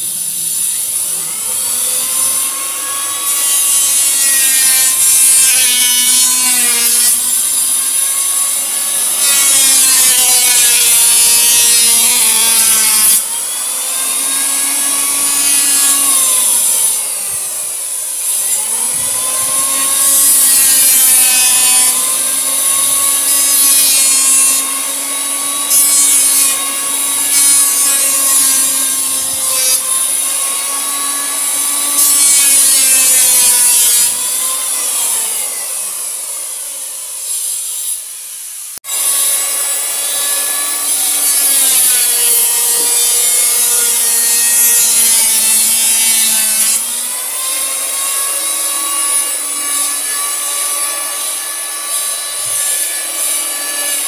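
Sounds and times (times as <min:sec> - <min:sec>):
electric hand planer shaving wood: 0:00.0 - 0:54.0.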